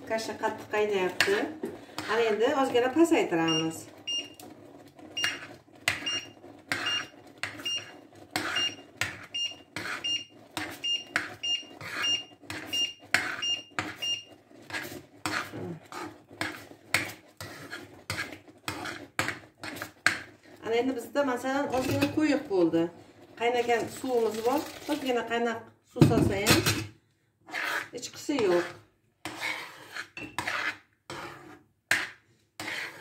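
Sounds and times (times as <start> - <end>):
spoon stirring porridge in a pan: 0.0 - 25.4, 26.3 - 33.0.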